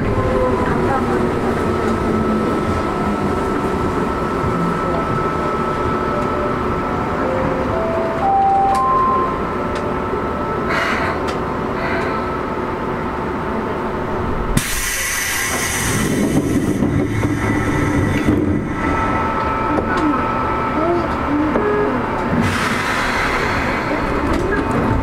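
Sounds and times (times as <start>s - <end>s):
train wheels and motors rumbling: 0.0s - 25.0s.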